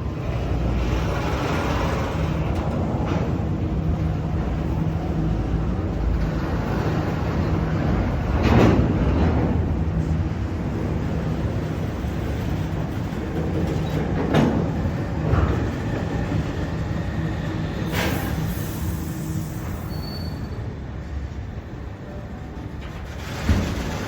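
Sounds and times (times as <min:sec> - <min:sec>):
sharp clicks of train: 0:00.0 - 0:20.0, 0:22.0 - 0:24.0
train rumbling: 0:00.0 - 0:24.0.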